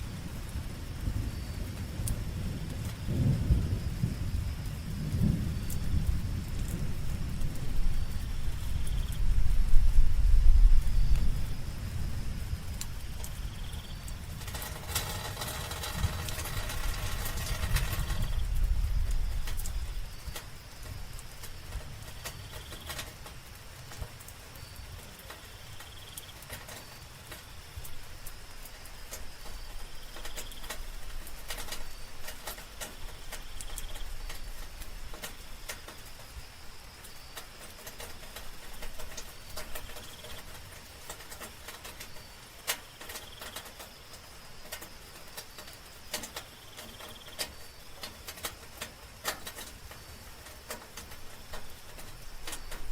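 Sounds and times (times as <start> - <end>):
night insects trilling: 0.0 - 52.9
raindrops tapping: 0.0 - 52.9.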